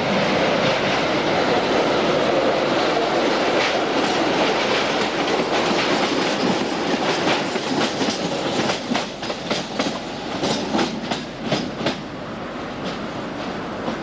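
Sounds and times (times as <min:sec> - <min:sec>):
train wheels clicking over rail joints: 0:02.6 - 0:14.0.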